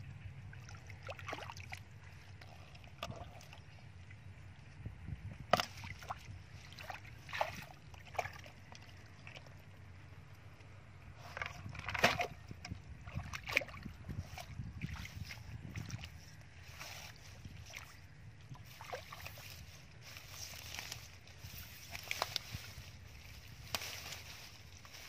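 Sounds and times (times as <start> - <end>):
low steady rumble: 0.0 - 25.0
splashing in shallow muddy water: 0.4 - 4.2, 5.4 - 9.8, 11.1 - 25.0.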